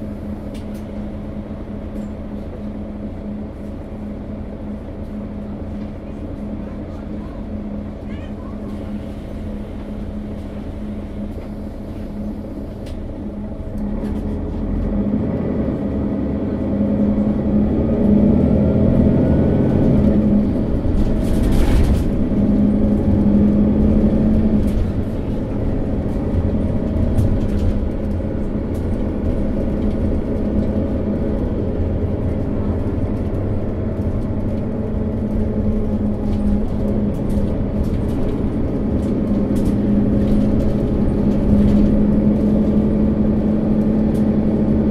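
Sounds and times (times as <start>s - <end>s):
bus engine accelerating: 0.0s - 44.9s
rising engine whine: 8.8s - 44.9s.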